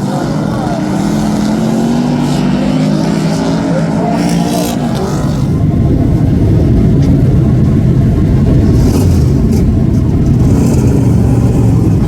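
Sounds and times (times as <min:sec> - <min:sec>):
racing car engines rumbling: 0:00.0 - 0:12.0.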